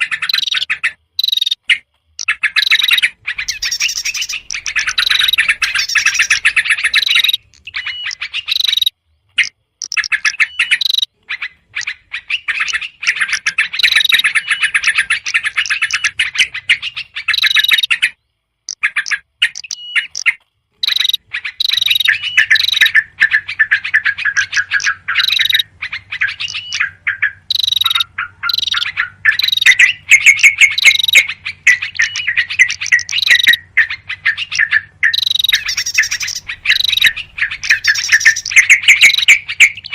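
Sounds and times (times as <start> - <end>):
bulbuls chattering: 0.0 - 39.9
small birds calling: 0.0 - 39.9.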